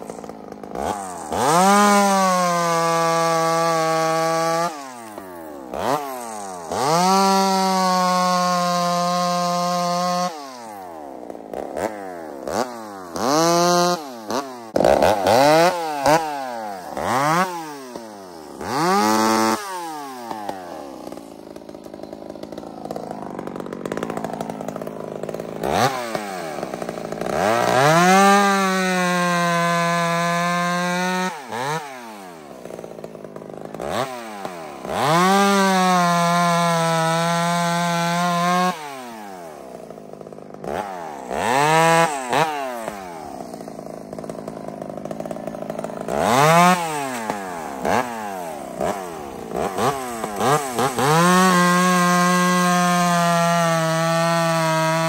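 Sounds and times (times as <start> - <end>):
chainsaw revving and cutting log: 0.0 - 55.0.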